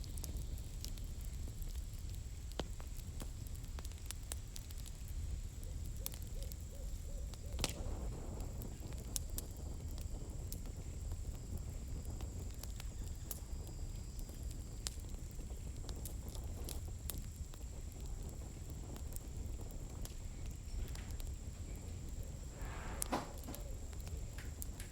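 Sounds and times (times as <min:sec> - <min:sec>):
burning logs rumbling: 0:00.0 - 0:24.9
campfire pops and snaps: 0:00.0 - 0:24.9.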